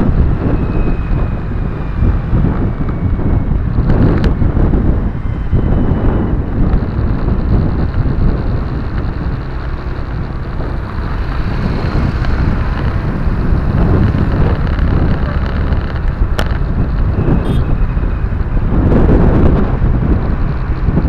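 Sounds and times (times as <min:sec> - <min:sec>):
car road rumble from inside: 0:00.0 - 0:21.0
wind buffeting on microphone: 0:00.0 - 0:21.0.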